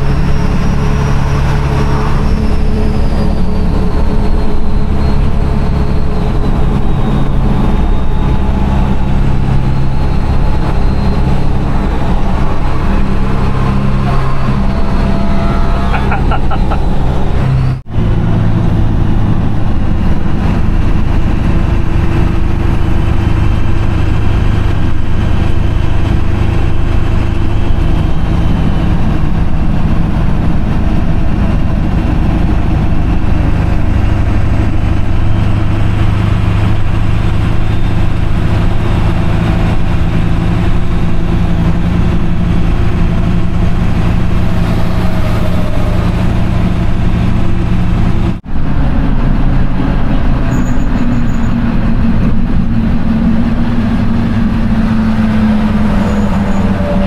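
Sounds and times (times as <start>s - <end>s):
low engine drone: 0.0s - 57.0s
tyre and road noise: 0.0s - 57.0s.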